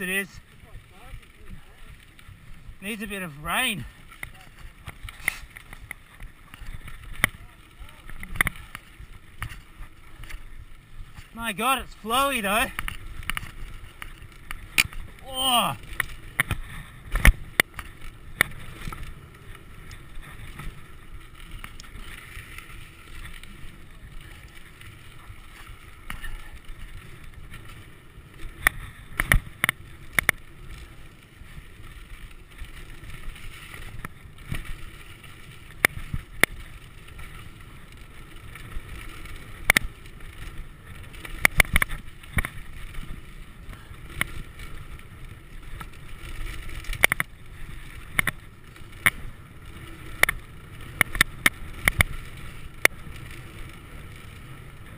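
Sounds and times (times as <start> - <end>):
bike clacking and rattling: 0.0 - 54.9.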